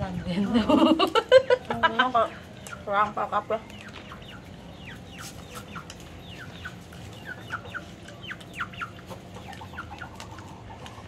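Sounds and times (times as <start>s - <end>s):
chickens cheeping: 0.0s - 11.0s.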